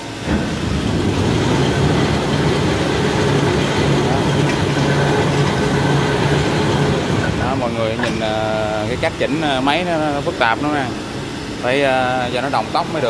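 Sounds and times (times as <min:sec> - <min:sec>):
paper rewinding machine running: 0:00.0 - 0:13.0.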